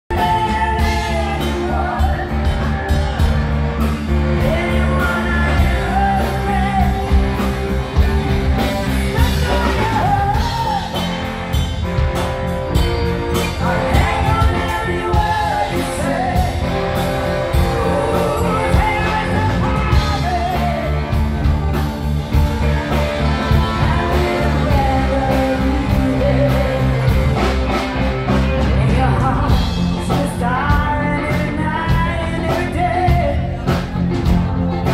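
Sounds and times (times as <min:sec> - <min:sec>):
electric bass: 0:00.0 - 0:34.9
woman singing lead: 0:00.1 - 0:12.2, 0:12.8 - 0:34.9
drum kit: 0:00.1 - 0:34.9
electric guitar: 0:00.1 - 0:34.9.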